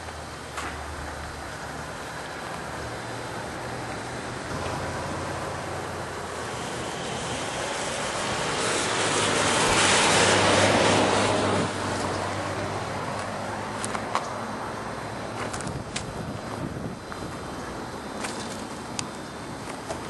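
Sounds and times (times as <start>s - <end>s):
vehicle passing on road: 1.1s - 18.6s.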